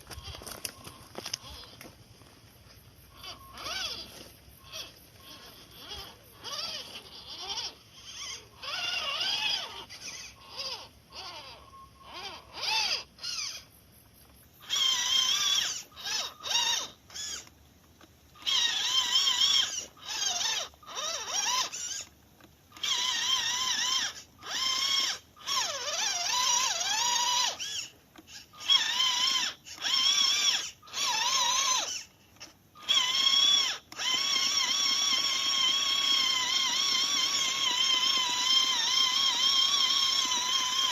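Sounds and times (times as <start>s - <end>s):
electric motor whining: 0.0s - 40.9s.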